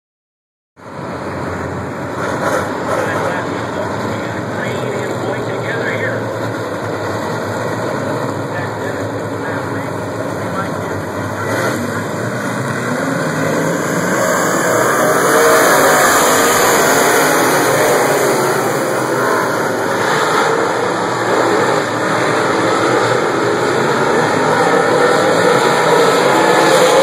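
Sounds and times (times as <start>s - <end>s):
race car engines revving: 0.8s - 27.0s.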